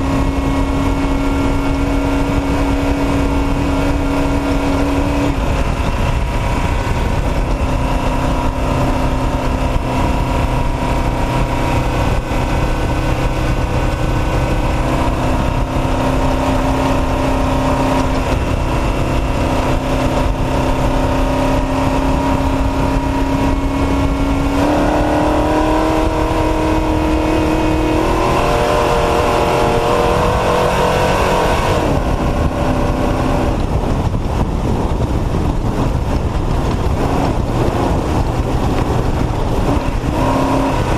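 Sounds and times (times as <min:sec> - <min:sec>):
truck engine running hard: 0:00.0 - 0:40.9
wind and tyre noise: 0:00.0 - 0:40.9.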